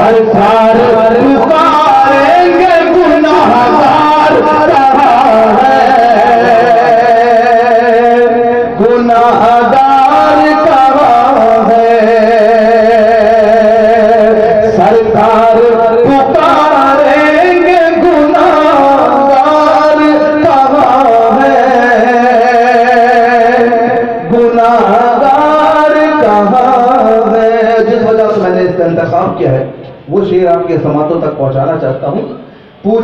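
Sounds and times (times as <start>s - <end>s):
person singing devotional song: 0.0s - 28.9s.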